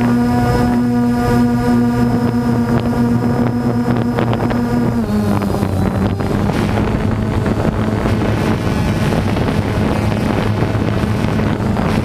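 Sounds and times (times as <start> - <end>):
drone propellers humming: 0.0 - 12.0.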